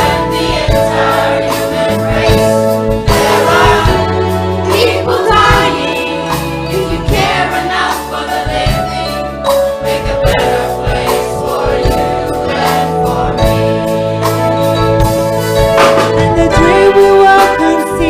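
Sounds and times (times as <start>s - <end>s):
percussion beat: 0.0s - 17.8s
bass notes: 0.0s - 18.0s
choir singing gospel: 0.0s - 18.0s.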